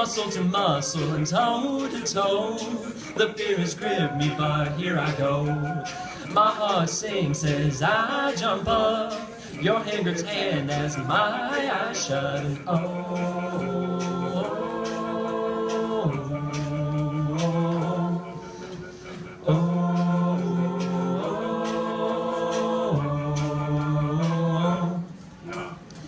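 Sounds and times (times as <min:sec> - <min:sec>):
a cappella group singing chords: 0:00.0 - 0:26.0.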